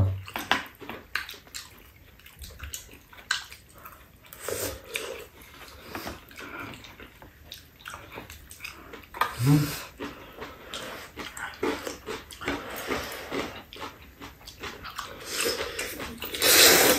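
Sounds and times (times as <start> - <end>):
slurping and chewing: 0.1 - 16.9.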